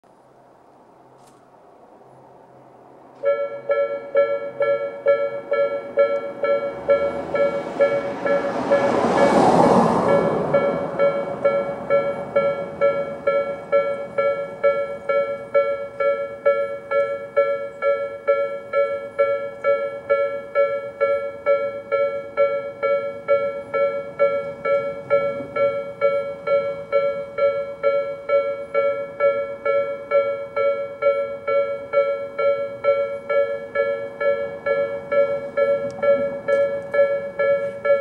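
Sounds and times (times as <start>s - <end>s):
level crossing warning bells: 3.2s - 38.0s.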